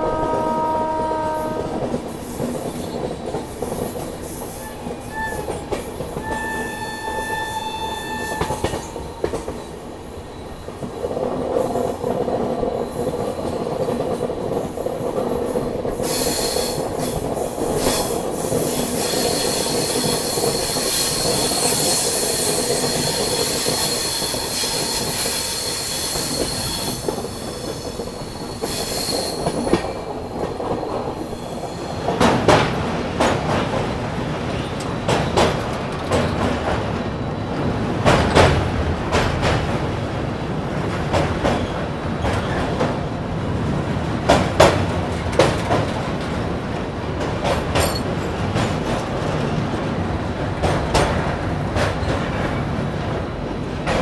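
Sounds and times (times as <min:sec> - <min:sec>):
train clanking on bridge: 0:00.0 - 0:54.0
train running: 0:00.0 - 0:54.0
train wheels squealing on rails: 0:01.7 - 0:33.7, 0:34.3 - 0:39.3, 0:41.1 - 0:43.0, 0:47.4 - 0:54.0.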